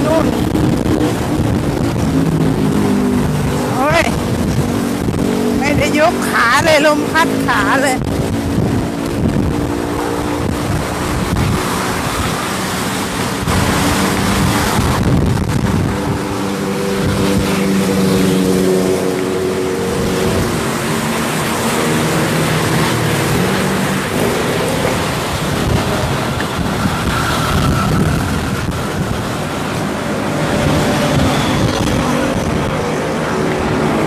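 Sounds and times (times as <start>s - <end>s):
engine-like hum: 0.0s - 34.0s
wind buffeting microphone: 0.0s - 34.0s.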